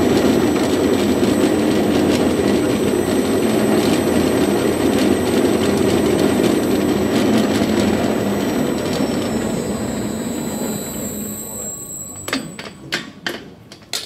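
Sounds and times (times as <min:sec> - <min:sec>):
cutter-mixer churning: 0:00.0 - 0:12.6.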